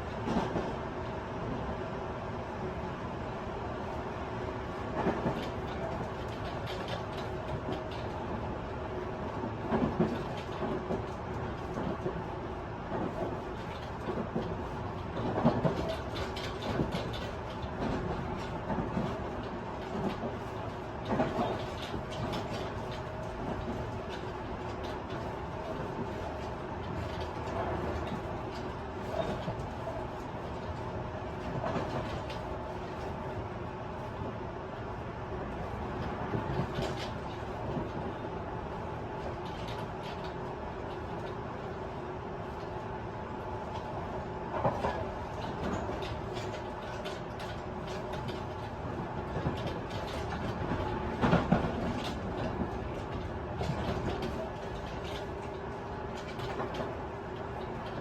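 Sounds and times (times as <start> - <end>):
rail joint clicks and knocks: 0.0 - 1.7, 4.6 - 34.4, 35.3 - 58.0
train wheels rumbling on rail: 0.0 - 58.0.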